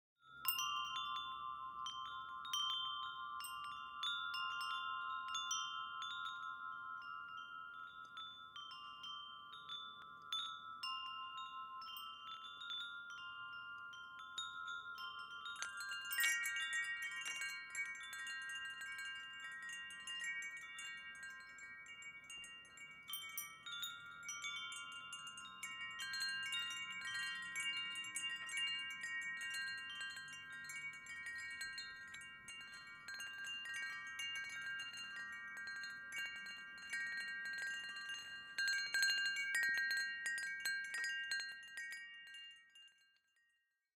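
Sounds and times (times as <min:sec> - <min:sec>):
bright high tinkling: 0:00.2 - 0:43.9
chimes ringing: 0:00.3 - 0:42.9.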